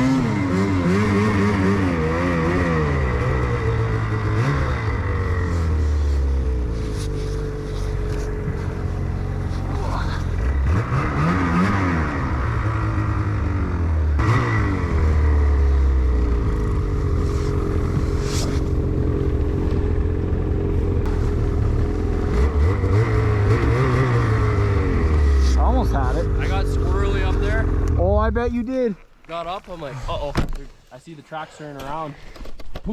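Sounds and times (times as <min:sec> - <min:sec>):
snowmobile engine revving: 0:00.0 - 0:28.6.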